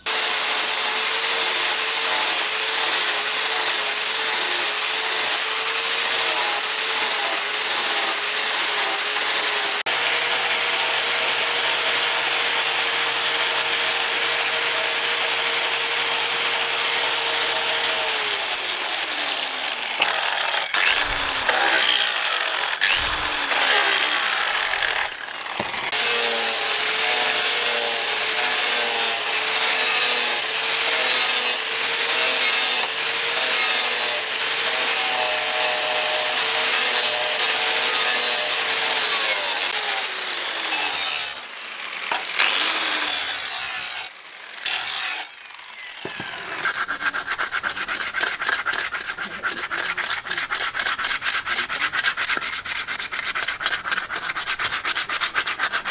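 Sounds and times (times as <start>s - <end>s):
hand sanding wooden handle: 0.0s - 41.5s, 46.0s - 55.9s
angle grinder grinding steel: 0.0s - 55.9s.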